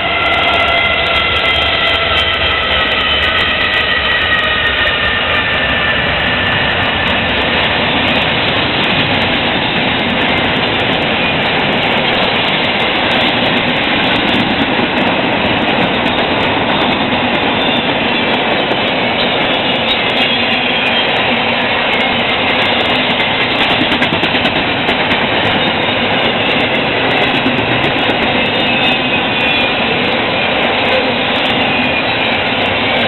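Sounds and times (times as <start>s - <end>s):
freight train wheel and rail noise: 0.0s - 33.0s.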